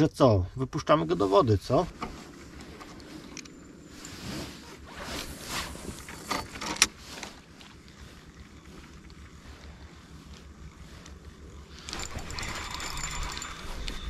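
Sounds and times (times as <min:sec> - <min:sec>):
fishing gear rustling and scraping: 0:01.2 - 0:14.0.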